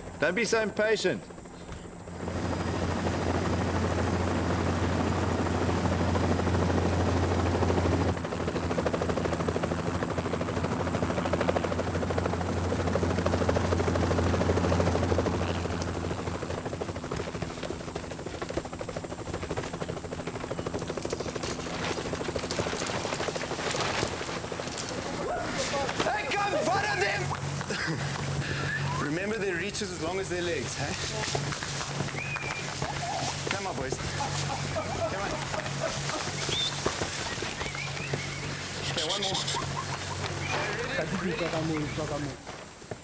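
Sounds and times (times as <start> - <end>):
helicopter rotor chop: 0.0 - 42.8
helicopter low hum: 0.0 - 43.0.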